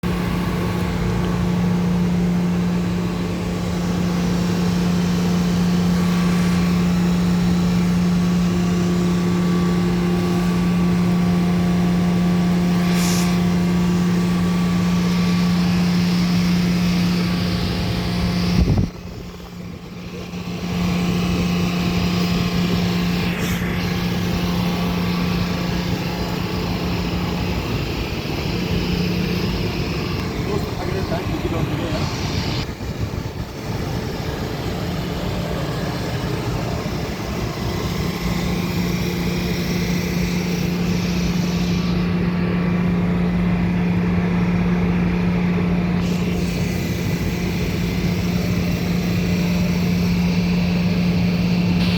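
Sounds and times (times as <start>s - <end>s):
heat pump compressor and fan: 0.0s - 51.9s.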